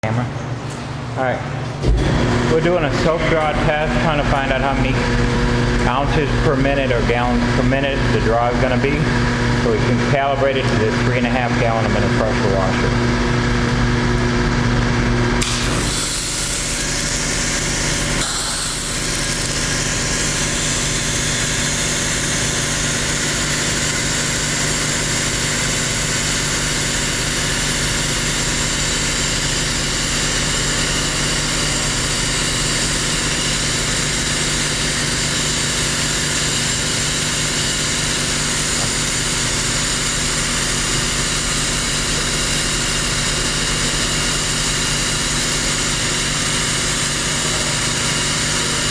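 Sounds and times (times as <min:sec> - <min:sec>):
pressure washer running: 0:01.8 - 0:48.9.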